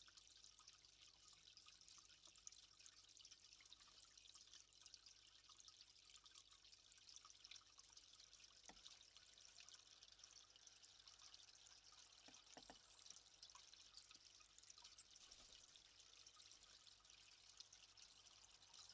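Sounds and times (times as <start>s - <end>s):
trickle of running water: 0.0s - 18.9s.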